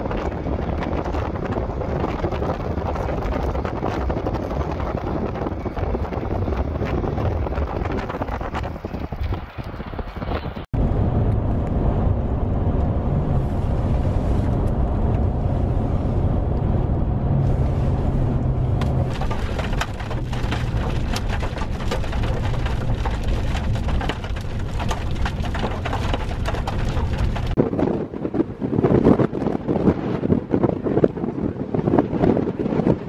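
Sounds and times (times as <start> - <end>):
low rumble: 0.0 - 31.8
wind and rain: 0.0 - 33.0.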